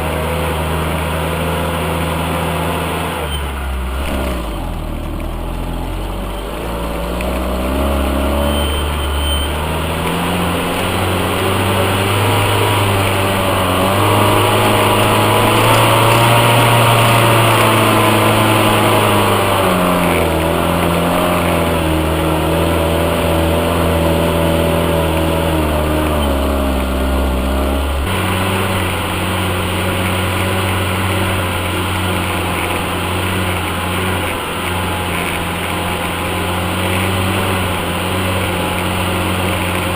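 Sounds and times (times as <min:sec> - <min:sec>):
off-road vehicle engine under load: 0:00.0 - 0:39.9.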